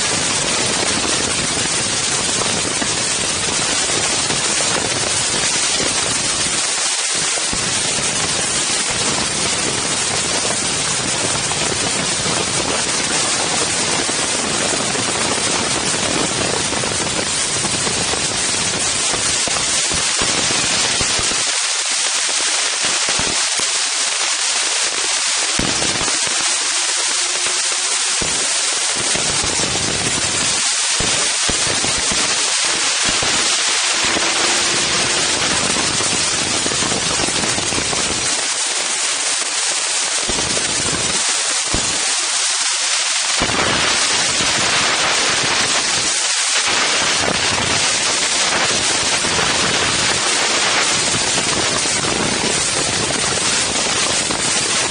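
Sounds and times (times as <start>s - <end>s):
wind buffeting microphone: 0.0s - 21.5s, 25.6s - 38.6s, 43.4s - 54.9s.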